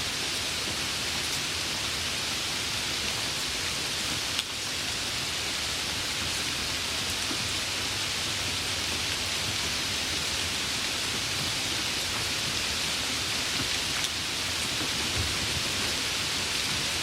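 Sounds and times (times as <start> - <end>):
steady rain falling: 0.0 - 17.0
separate raindrops: 0.1 - 17.0.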